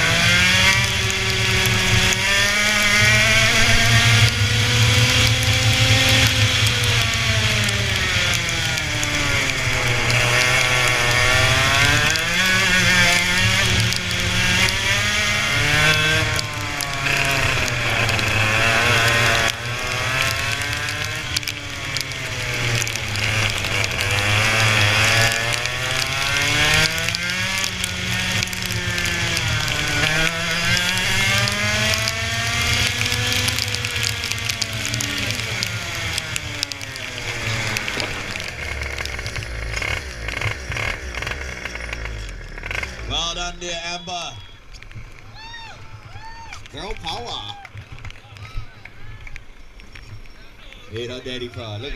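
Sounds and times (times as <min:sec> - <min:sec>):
racing engine revving: 0:00.0 - 0:44.9.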